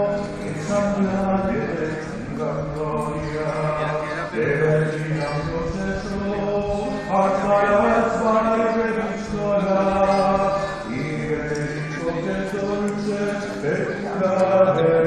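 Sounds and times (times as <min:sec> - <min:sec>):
voices singing a slow chant: 0:00.0 - 0:15.0.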